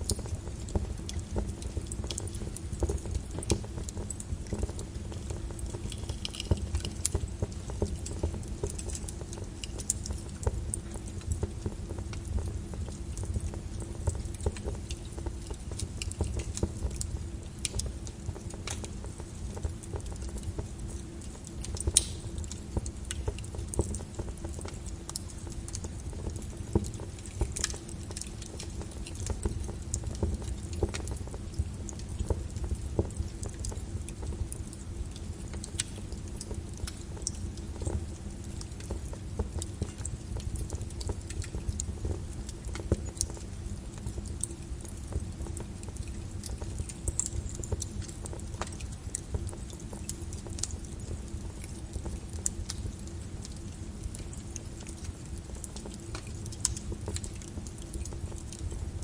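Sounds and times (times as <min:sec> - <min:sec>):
lava crackling and popping: 0:00.0 - 0:59.0.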